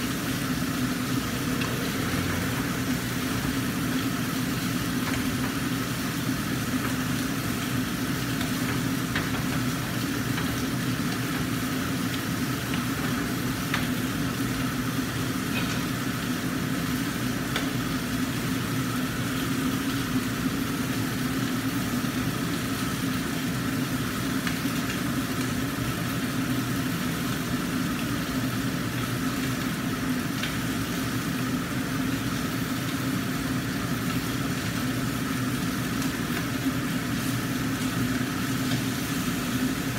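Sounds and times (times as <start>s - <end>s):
fish sizzling in a wok: 0.0s - 39.9s
low mechanical hum: 0.0s - 39.9s.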